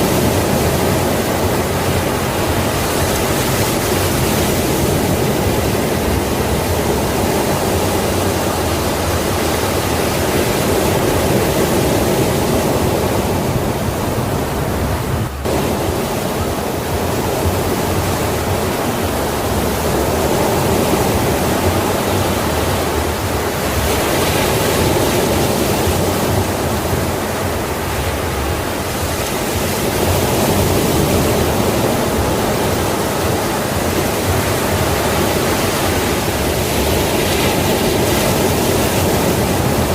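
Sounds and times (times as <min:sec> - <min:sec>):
ocean waves on a shore: 0:00.0 - 0:39.9.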